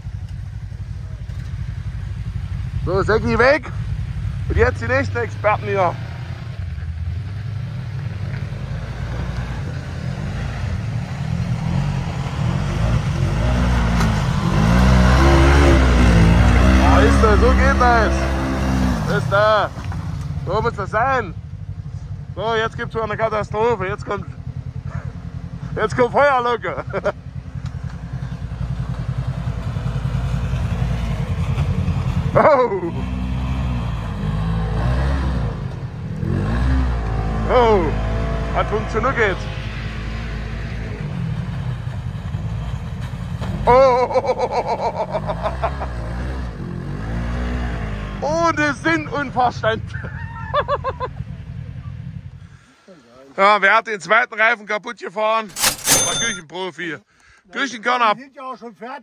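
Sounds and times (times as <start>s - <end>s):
off-road vehicle engine revving: 0.7s - 52.7s.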